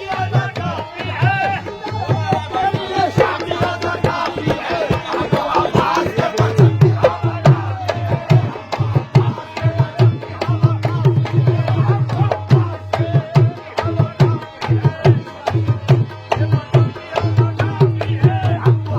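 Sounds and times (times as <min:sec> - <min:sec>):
hand drum fast rhythm: 0:00.0 - 0:18.9.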